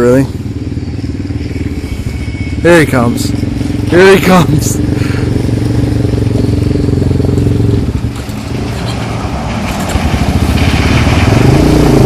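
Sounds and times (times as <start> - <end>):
vehicle engine under throttle: 0.0 - 12.0.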